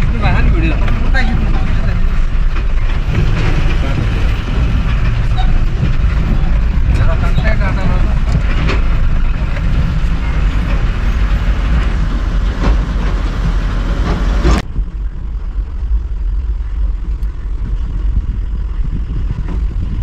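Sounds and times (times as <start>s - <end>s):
diesel engine rumbling: 0.0s - 20.0s
sharp knocks and rattles: 0.0s - 20.0s
vehicle driving on dirt track: 0.0s - 20.0s.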